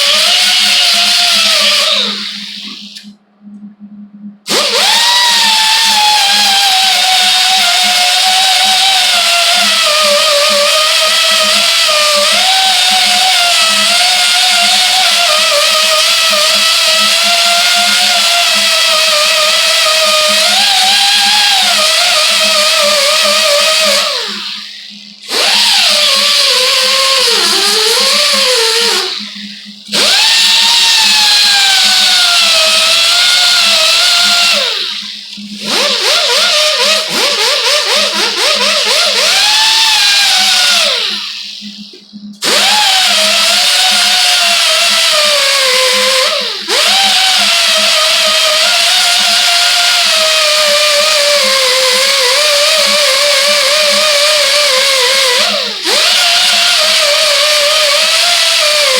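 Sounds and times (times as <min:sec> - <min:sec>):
electric power tool whining: 0:00.0 - 0:03.1, 0:04.5 - 0:58.9.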